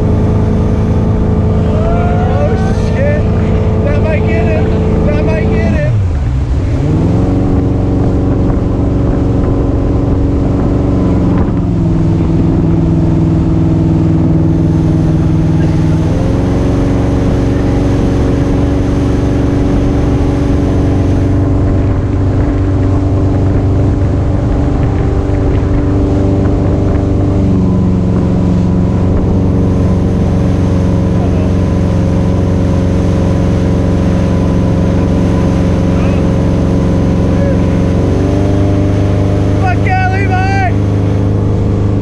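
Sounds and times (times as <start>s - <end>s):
motorboat engine droning: 0.0s - 42.0s
rush of boat wake: 0.0s - 42.0s.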